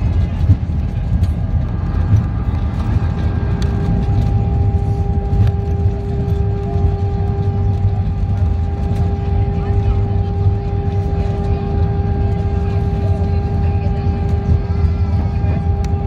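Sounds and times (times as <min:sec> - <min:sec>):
airliner landing rumble: 0:00.0 - 0:16.0
steady cabin hum: 0:00.0 - 0:16.0.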